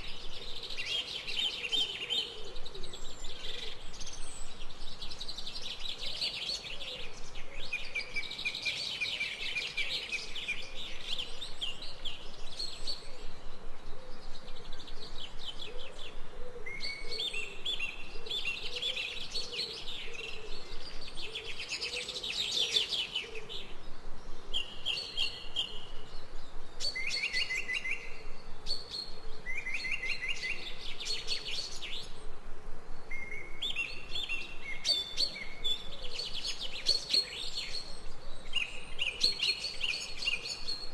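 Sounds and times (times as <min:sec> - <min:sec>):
faint steady hiss: 0:00.0 - 0:40.9
songbirds chirping and singing: 0:00.0 - 0:40.9.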